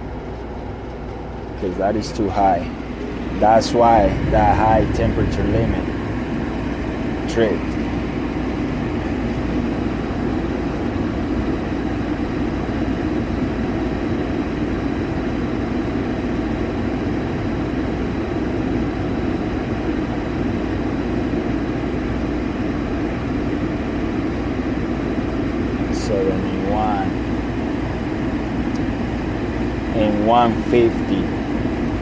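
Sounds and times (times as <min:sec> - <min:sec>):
gas furnace blower rushing: 0:00.0 - 0:32.0.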